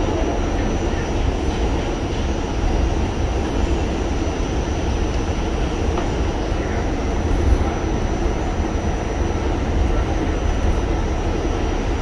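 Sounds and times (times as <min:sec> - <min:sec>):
high whine: 0:00.0 - 0:12.0
subway car rumbling: 0:00.0 - 0:12.0.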